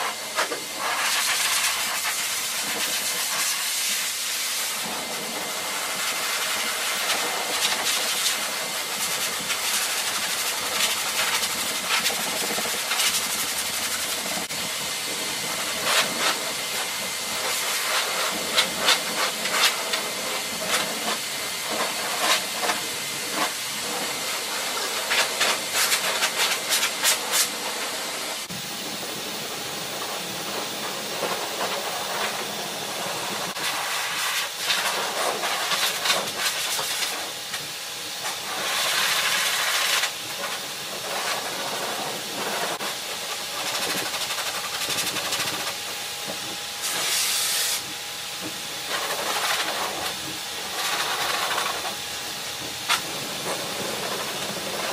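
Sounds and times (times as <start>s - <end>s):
pet dryer blowing air: 0.0s - 54.9s.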